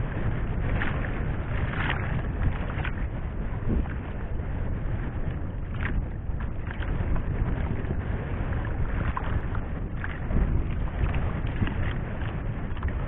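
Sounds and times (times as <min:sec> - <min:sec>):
water moving against boat: 0:00.0 - 0:13.0
wind buffeting microphone: 0:00.0 - 0:13.0.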